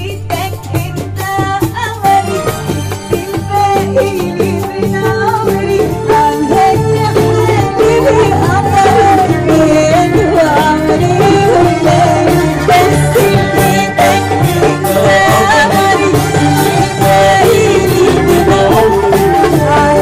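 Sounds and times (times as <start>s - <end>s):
live band with violins and keyboard: 0.0s - 20.0s
woman singing through a microphone: 0.0s - 20.0s.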